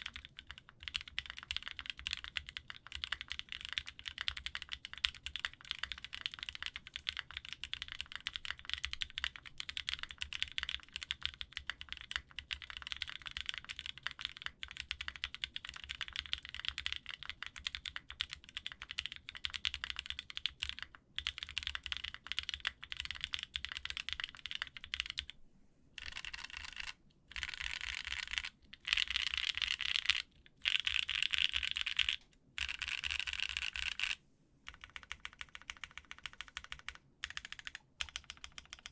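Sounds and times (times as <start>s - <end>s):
mechanical keyboard typing: 0.0s - 25.4s, 26.0s - 38.9s.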